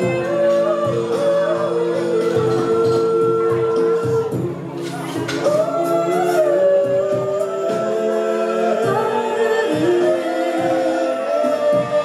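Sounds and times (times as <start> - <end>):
a cappella group singing: 0.0 - 12.0.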